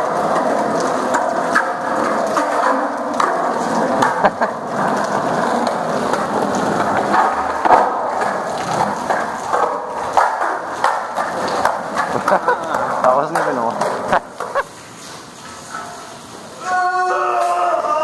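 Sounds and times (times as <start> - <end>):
skateboard clacking on ground: 0.0 - 14.8
skateboard wheels rolling on pavement: 0.0 - 16.6.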